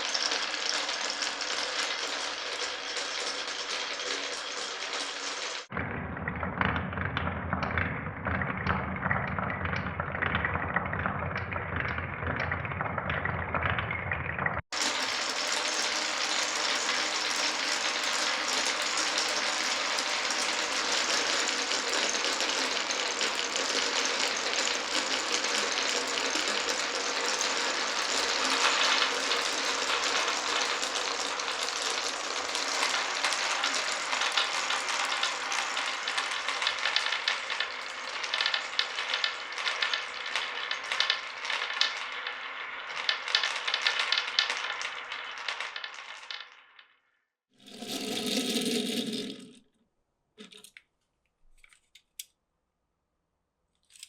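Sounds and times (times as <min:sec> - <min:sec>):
marbles clattering: 0:00.0 - 0:47.0, 0:47.6 - 0:49.7
marbles rolling on a marble run: 0:00.0 - 0:47.0, 0:47.6 - 0:49.7.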